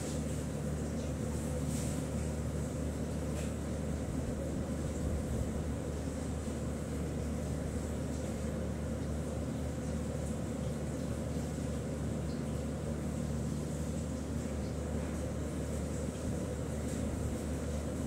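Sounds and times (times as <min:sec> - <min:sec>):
machinery low hum with hiss: 0:00.0 - 0:18.0.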